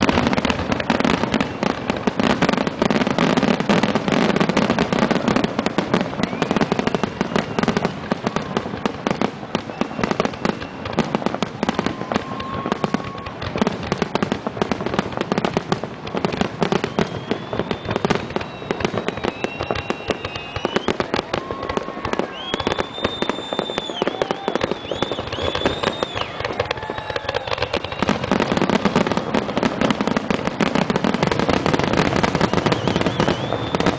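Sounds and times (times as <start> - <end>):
firework whistles: 0.0 - 14.2, 16.2 - 33.9
fireworks crackling and banging: 0.0 - 33.9.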